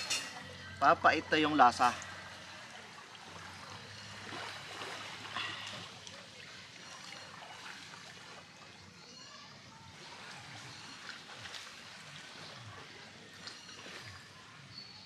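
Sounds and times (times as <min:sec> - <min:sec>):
seawater trickling and lapping: 0:00.2 - 0:15.0.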